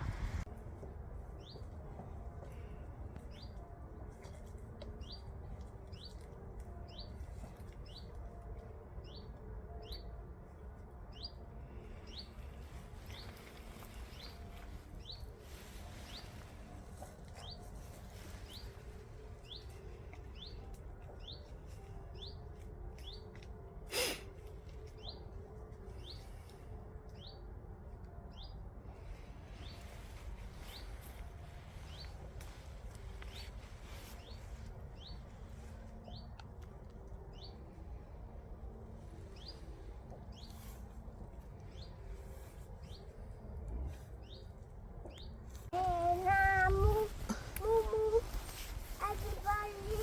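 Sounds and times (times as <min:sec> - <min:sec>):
low wind rumble: 0:00.0 - 0:50.0.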